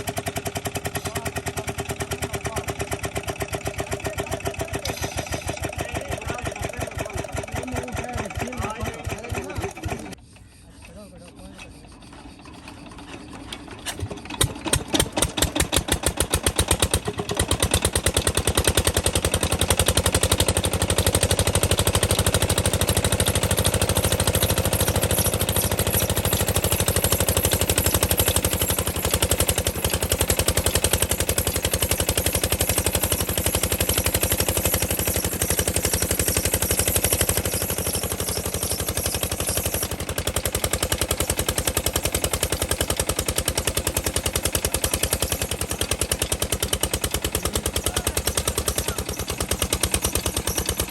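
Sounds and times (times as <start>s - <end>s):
pump engine running: 0.0s - 10.2s, 11.8s - 50.9s.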